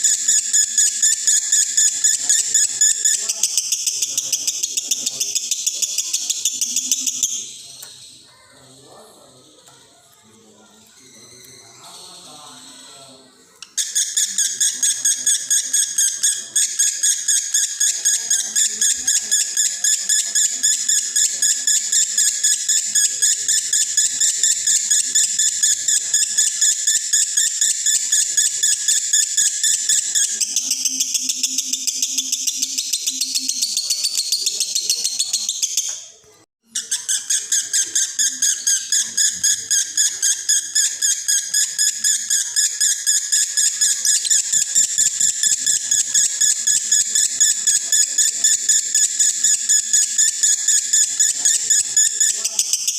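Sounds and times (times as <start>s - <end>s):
lovebird rapid high chirping: 0.0s - 8.6s, 13.6s - 52.9s.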